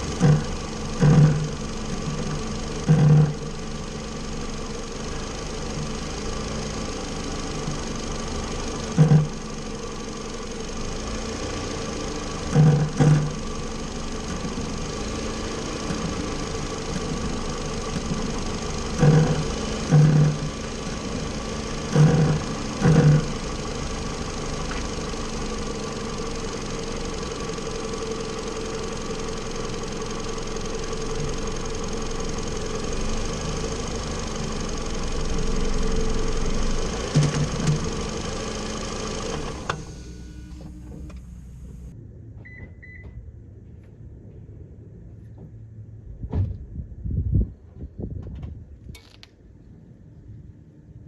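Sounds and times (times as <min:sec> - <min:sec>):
car engine humming: 0:00.0 - 0:44.2.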